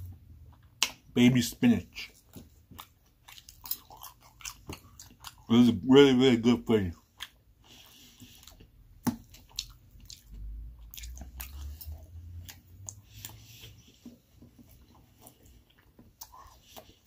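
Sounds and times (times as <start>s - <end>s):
chewing food: 0.0s - 17.0s.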